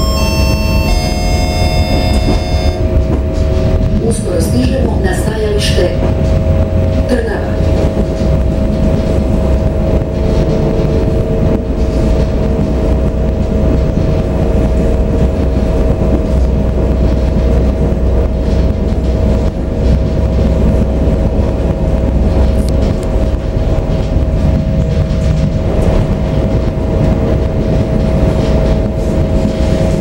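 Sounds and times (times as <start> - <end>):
electric train rumble: 0.0 - 30.0
steady whine: 0.0 - 30.0.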